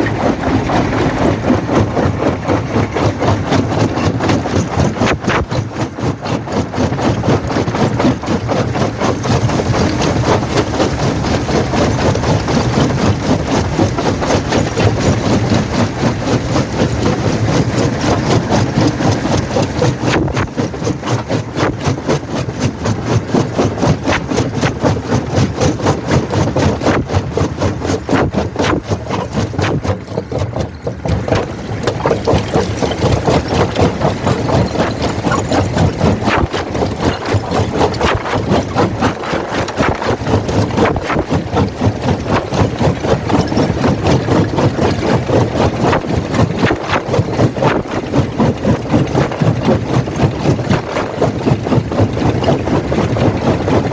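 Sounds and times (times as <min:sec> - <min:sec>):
jaw crusher machinery: 0:00.0 - 0:53.9.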